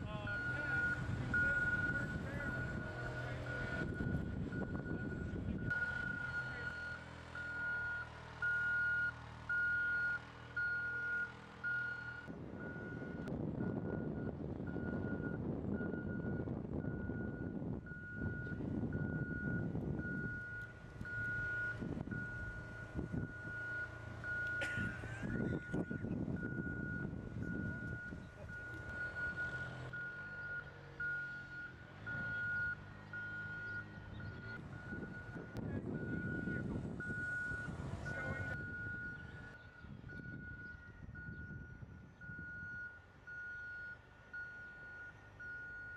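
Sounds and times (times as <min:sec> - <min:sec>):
engine hum: 0:00.0 - 0:45.9
reversing alarm beeping: 0:00.1 - 0:45.9.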